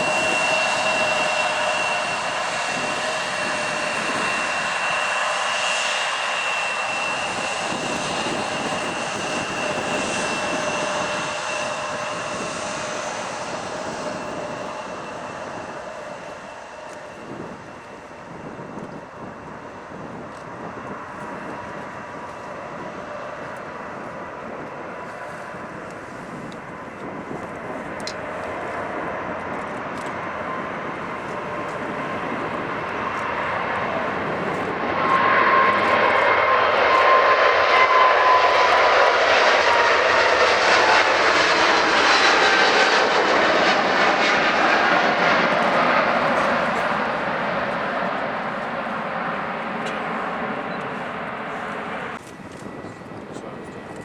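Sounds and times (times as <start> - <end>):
airliner engines passing: 0.0 - 54.0
falling engine whine: 0.0 - 54.0.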